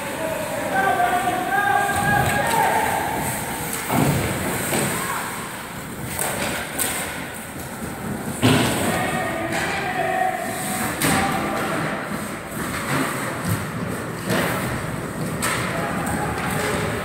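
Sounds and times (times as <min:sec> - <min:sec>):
hockey pucks and sticks thumping: 0:00.0 - 0:17.0
ice rink background noise: 0:00.0 - 0:17.0.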